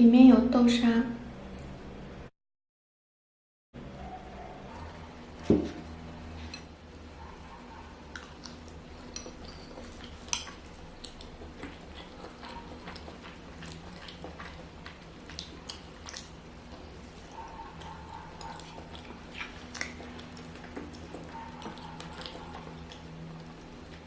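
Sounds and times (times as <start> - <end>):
low steady hum: 3.8 - 24.0
soft chewing and mouth sounds: 4.7 - 24.0.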